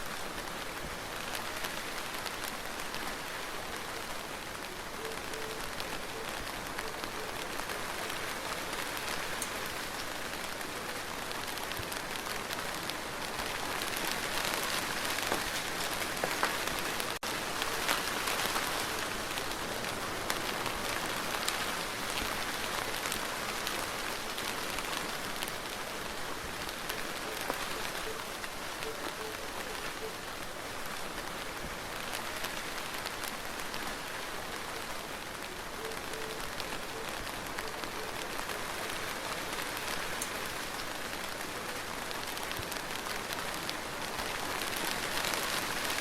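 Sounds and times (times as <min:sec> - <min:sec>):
steady rain pattering: 0:00.0 - 0:46.0.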